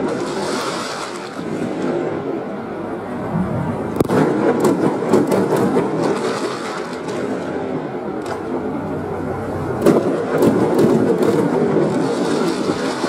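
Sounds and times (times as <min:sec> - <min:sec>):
fireworks cracks: 0:00.0 - 0:02.4, 0:03.8 - 0:08.9, 0:09.8 - 0:13.0
slowed fireworks rumble: 0:00.0 - 0:13.0.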